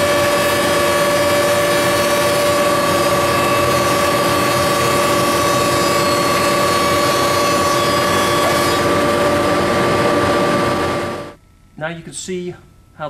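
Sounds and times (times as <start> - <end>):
planer machine with high whine: 0.0 - 11.4.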